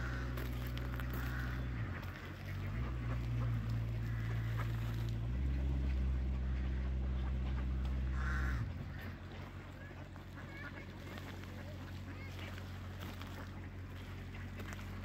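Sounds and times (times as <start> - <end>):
bird calls: 0.0 - 15.0
loud low hum: 0.0 - 15.0.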